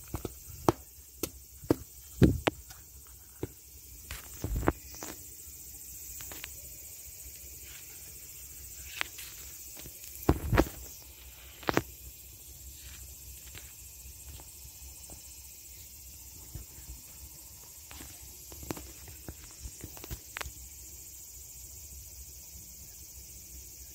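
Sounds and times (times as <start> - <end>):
faint high hiss: 0.0 - 23.9.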